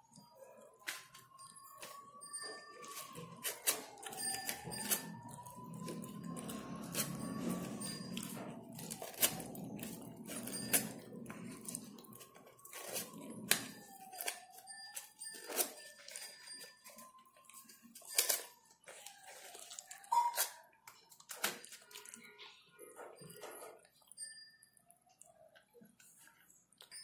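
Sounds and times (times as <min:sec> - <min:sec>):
paper rustling and crinkling: 0:00.8 - 0:24.0.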